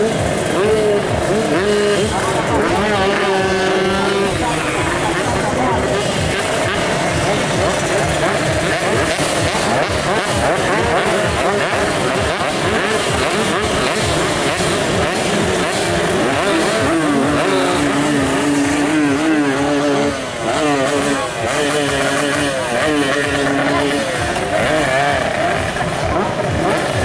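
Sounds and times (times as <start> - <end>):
motorcycles revving: 0.0 - 27.0.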